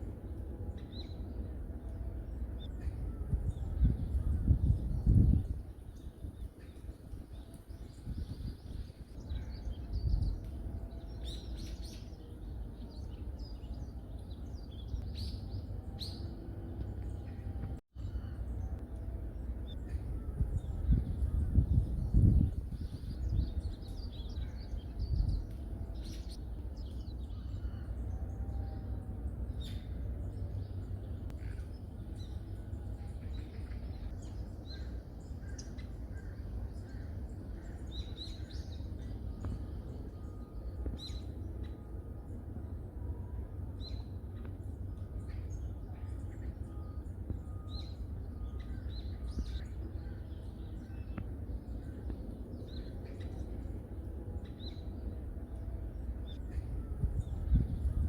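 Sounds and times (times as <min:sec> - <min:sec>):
low rumble: 0:00.0 - 0:58.0.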